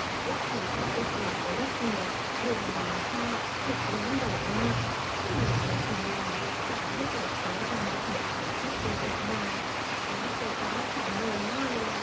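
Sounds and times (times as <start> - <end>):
rain: 0.0 - 12.0
wind: 0.0 - 12.0.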